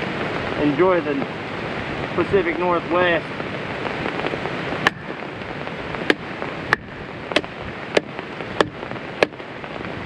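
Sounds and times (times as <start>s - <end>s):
rain hiss: 0.0s - 10.0s
raindrops tapping on umbrella: 0.0s - 10.0s.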